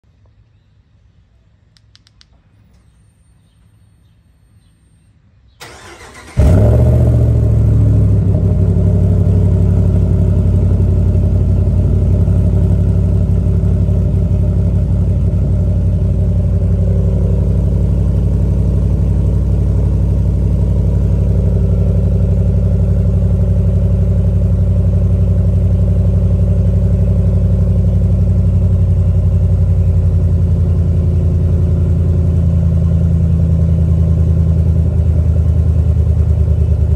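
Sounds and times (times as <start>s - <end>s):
truck engine starting and idling: 5.6s - 36.9s.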